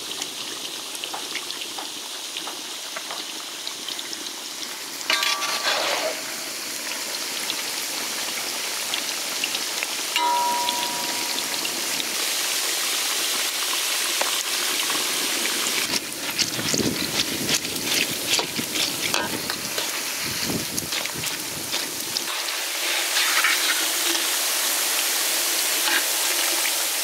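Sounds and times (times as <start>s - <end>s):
food deep-frying in hot oil: 0.0s - 27.0s.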